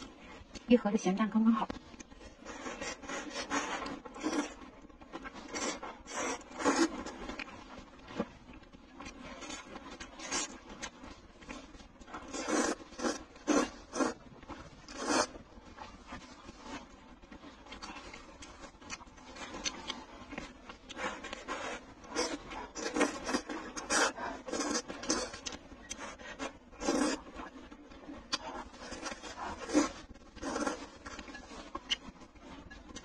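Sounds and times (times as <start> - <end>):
person chewing and slurping noodles: 1.9 - 33.0.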